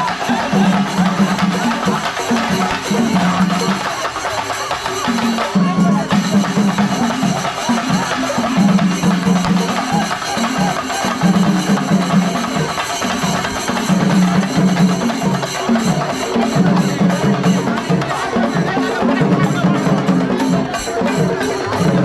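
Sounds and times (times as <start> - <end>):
fast drum strokes: 0.0 - 22.0
hand cymbals clashing: 0.0 - 22.0.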